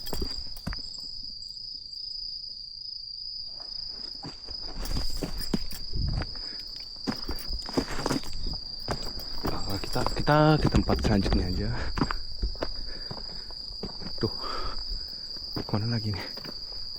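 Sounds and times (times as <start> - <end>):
footsteps: 0.0 - 1.0, 3.6 - 16.9
insects chirring: 0.0 - 16.9.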